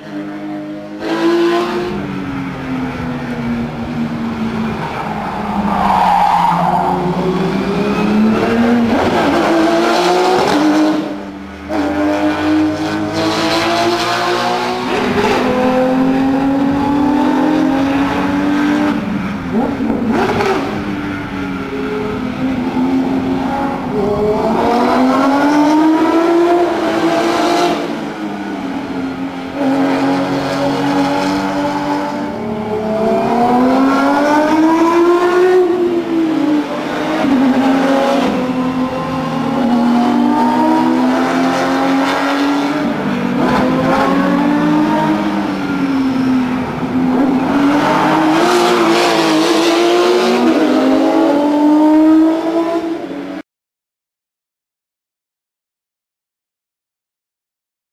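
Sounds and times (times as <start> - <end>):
racing engine accelerating hard: 3.6 - 21.0, 22.5 - 28.8, 29.4 - 53.1.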